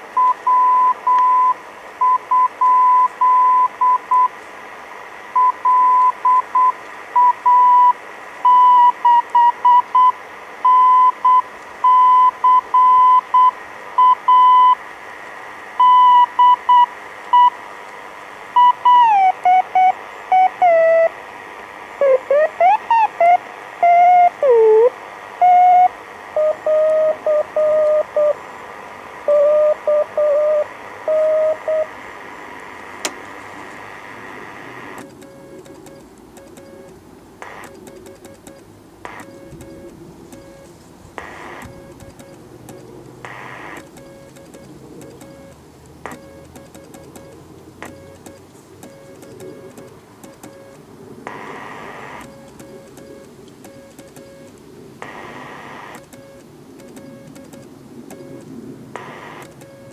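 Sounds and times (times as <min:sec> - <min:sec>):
morse code tone: 0:00.2 - 0:04.3, 0:05.4 - 0:14.8, 0:15.8 - 0:17.6, 0:18.6 - 0:21.2, 0:22.0 - 0:28.4, 0:29.3 - 0:32.0, 0:35.0 - 0:59.9
radio tuning warble: 0:00.5 - 0:59.9.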